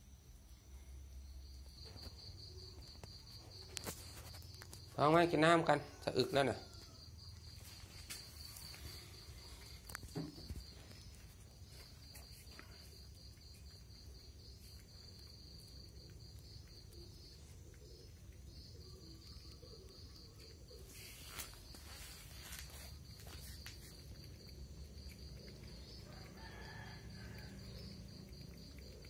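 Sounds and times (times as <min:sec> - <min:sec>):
high insect trill: 0:00.0 - 0:29.0.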